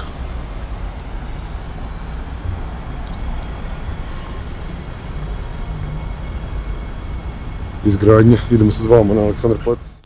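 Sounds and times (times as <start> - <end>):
traffic passing: 0.0 - 10.0.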